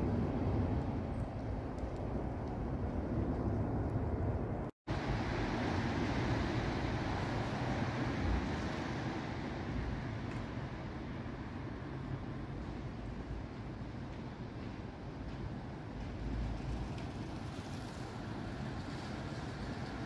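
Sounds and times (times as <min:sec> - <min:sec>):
low street rumble: 0:00.0 - 0:20.0.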